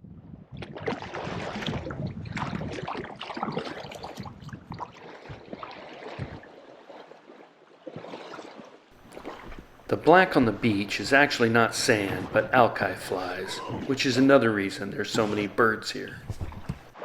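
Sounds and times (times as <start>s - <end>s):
water splashing against kayak: 0.5s - 17.0s.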